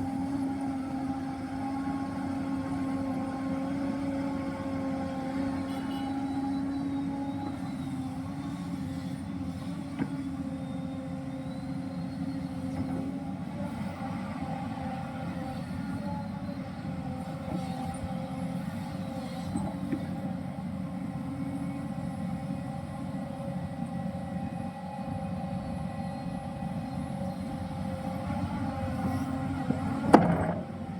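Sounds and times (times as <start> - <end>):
excavator engine droning: 0.0 - 30.9.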